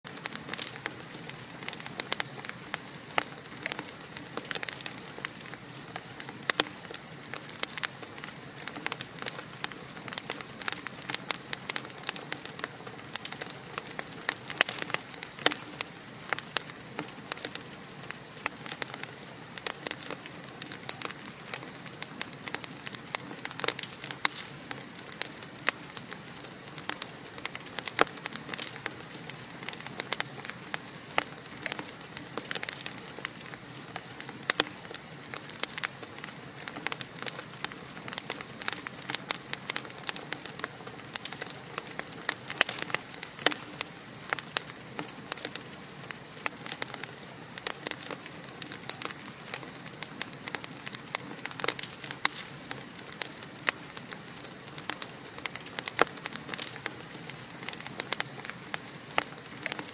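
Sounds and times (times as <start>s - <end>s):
logs crackling and popping: 0.0s - 59.9s.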